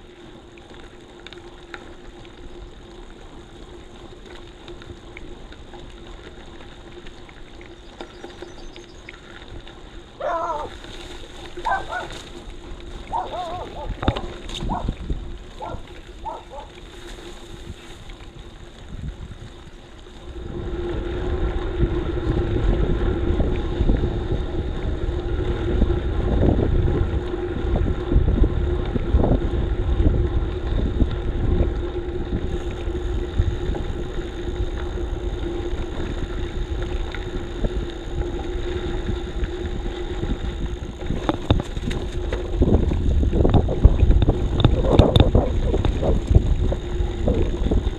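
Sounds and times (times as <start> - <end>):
rolling tyres hum: 0.0 - 47.9
wind buffeting microphone: 7.5 - 47.9.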